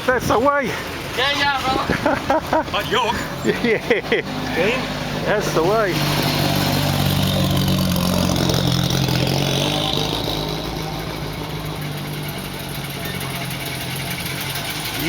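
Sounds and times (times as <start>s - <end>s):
old car engine passing slowly: 0.0s - 15.0s.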